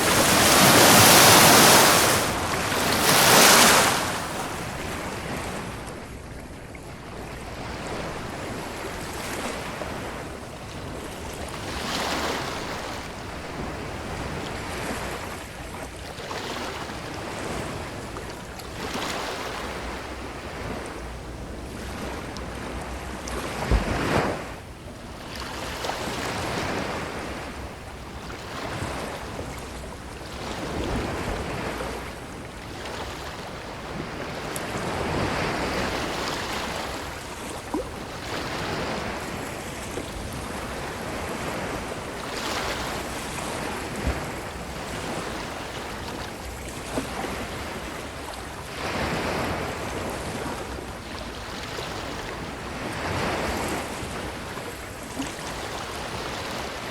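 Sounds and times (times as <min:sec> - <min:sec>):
ocean waves breaking: 0:00.0 - 0:06.2, 0:07.4 - 0:56.9.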